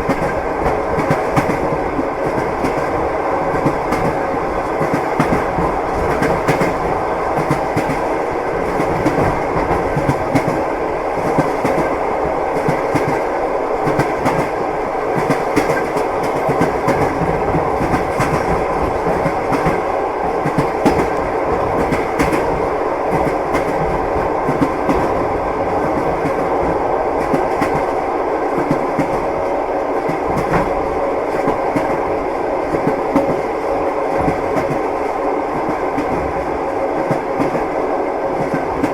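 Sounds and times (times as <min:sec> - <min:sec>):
train wheels clattering over rails: 0:00.0 - 0:28.0, 0:28.6 - 0:32.1, 0:32.7 - 0:37.7.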